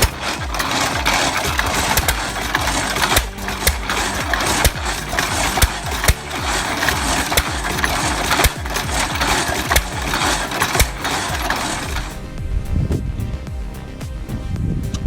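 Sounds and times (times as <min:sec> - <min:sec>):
saw blade rasping through log: 0:00.0 - 0:12.2
engine firing knocks: 0:00.0 - 0:14.8.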